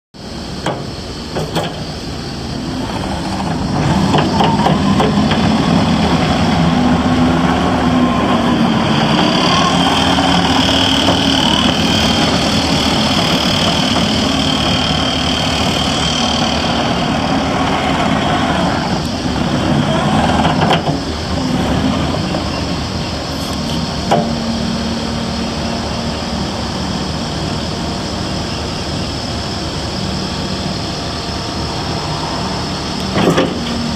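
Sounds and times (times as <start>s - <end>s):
skid steer diesel engine running: 0.2s - 33.9s
steady high whine: 0.2s - 33.9s.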